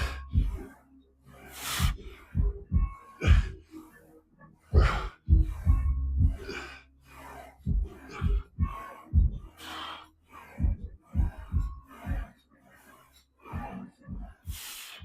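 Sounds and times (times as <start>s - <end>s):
man breathing hard and gasping: 0.0s - 0.7s, 1.3s - 4.0s, 4.6s - 15.0s.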